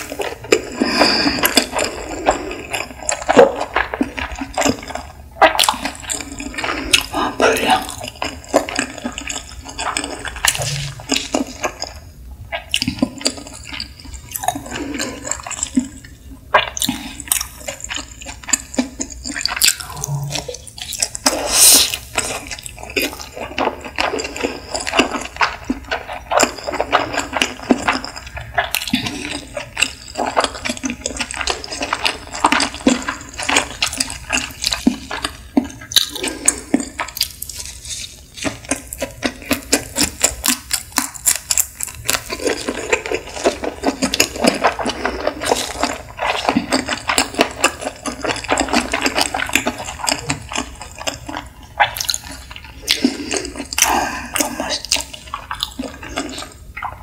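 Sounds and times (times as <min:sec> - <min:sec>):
chewing mouth clicks and smacks: 0:07.8 - 0:57.0.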